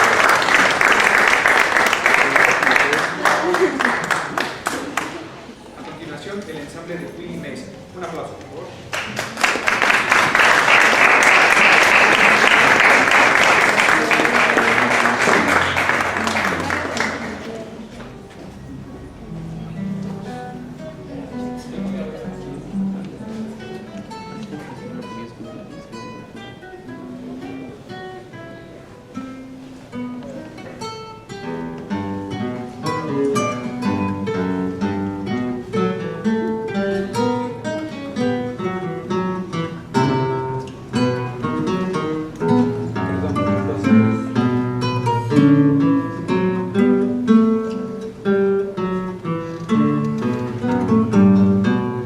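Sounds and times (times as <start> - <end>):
acoustic guitars playing: 0.0 - 52.0.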